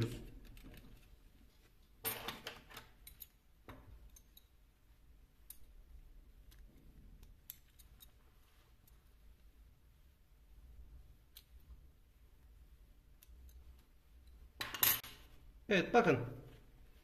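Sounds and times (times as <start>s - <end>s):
cloth rustling: 0.0s - 14.6s.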